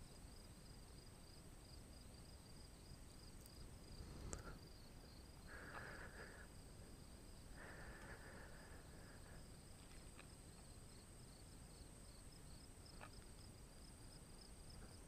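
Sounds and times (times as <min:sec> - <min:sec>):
crickets chirping: 0:00.0 - 0:15.0
faint steady tone: 0:00.0 - 0:15.0.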